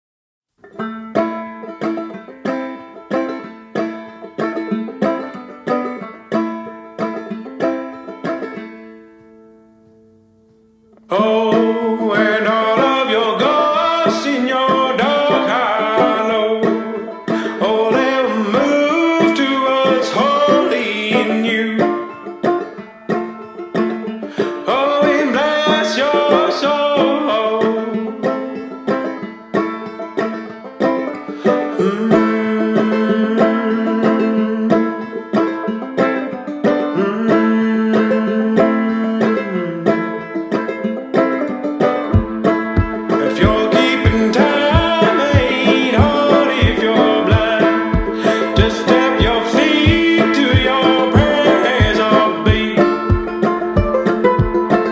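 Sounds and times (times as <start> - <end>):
fuller musical arrangement: 0.6 - 54.9
plucked-string melody: 0.6 - 54.9.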